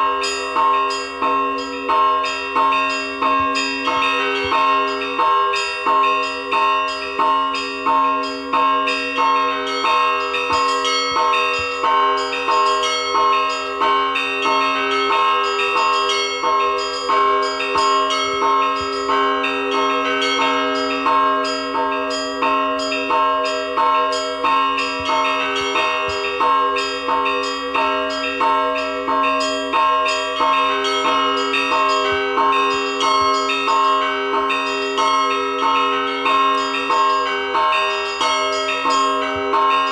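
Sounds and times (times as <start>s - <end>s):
church bells pealing: 0.0s - 39.9s
deep bell ringing: 0.0s - 39.9s.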